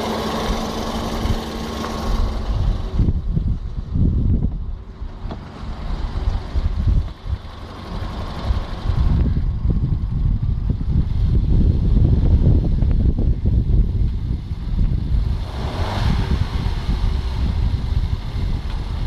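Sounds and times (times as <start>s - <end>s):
car engine running: 0.0s - 19.0s
wind rumble on microphone: 0.0s - 19.0s.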